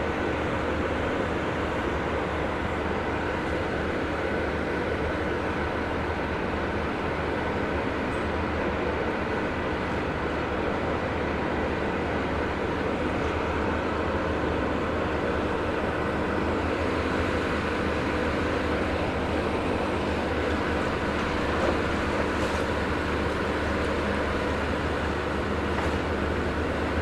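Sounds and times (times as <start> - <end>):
diesel excavator engine running: 0.0 - 27.0.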